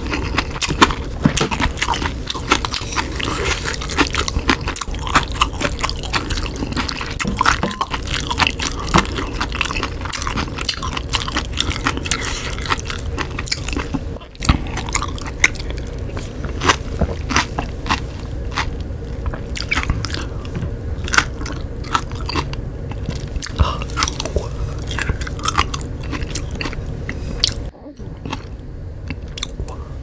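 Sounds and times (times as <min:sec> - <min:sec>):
wet chewing and mouth clicks: 0:00.0 - 0:29.8.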